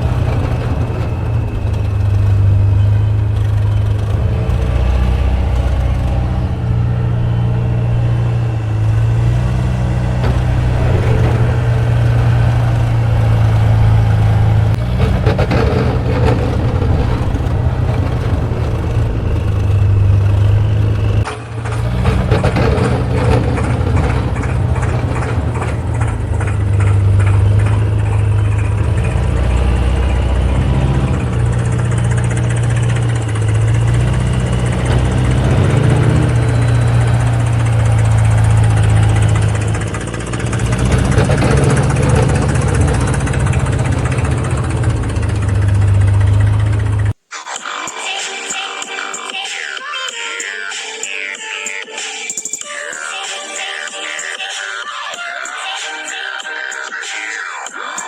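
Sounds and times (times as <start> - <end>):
engine droning: 0.0 - 47.2.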